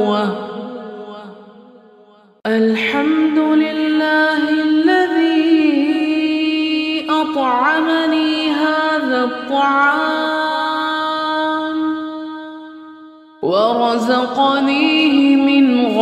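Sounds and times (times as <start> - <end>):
person chanting a slow melody: 0.0 - 16.0.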